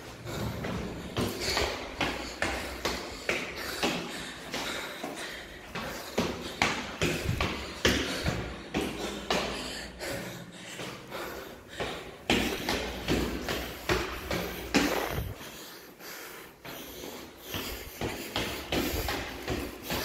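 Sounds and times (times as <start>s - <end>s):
footsteps on tiled stairs: 0.0s - 20.0s
person panting heavily: 0.0s - 20.0s.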